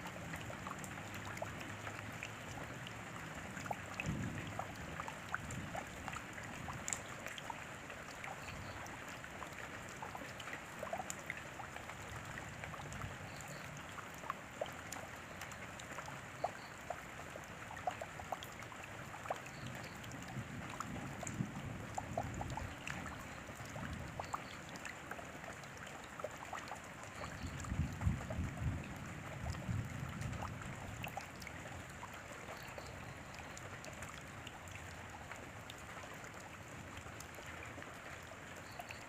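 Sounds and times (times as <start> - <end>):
drops ticking and splashing: 0.0 - 39.0
steady rain: 0.0 - 39.0.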